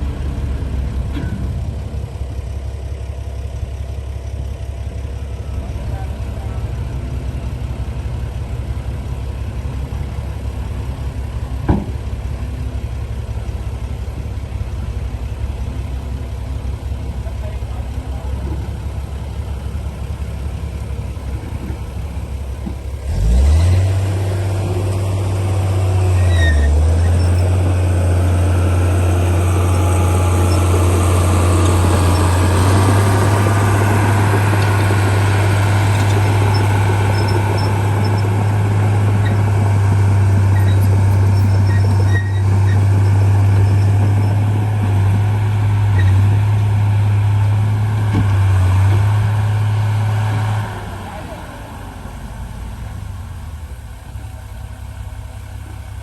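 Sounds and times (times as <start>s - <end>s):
heavy diesel engine rumbling: 0.0s - 56.0s.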